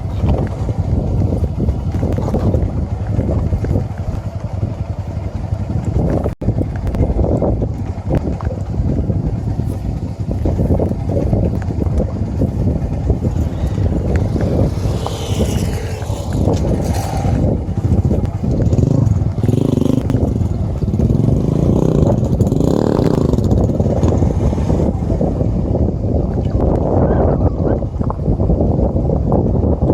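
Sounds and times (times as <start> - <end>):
small motorcycle engine: 0.0 - 26.2
wind noise on microphone: 0.0 - 29.9.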